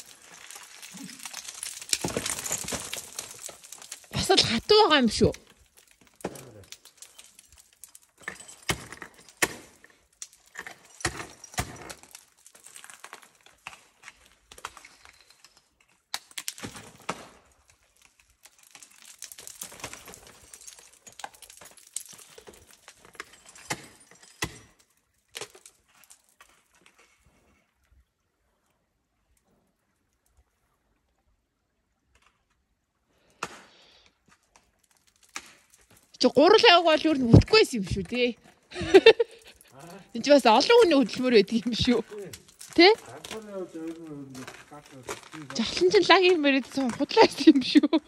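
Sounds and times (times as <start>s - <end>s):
ice tools striking ice: 0.0s - 26.9s, 34.4s - 38.1s, 38.8s - 48.0s
ice crunching: 0.0s - 27.6s, 33.2s - 48.0s.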